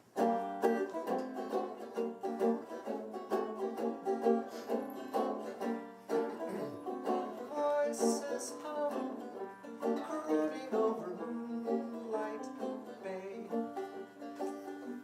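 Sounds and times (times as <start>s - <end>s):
plucked string instrumental music: 0.0s - 15.0s.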